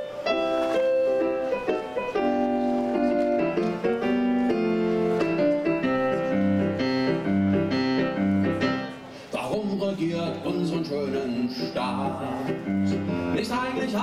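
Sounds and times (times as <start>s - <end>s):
low piano bass notes: 0.0s - 14.0s
piano chords: 0.0s - 14.0s.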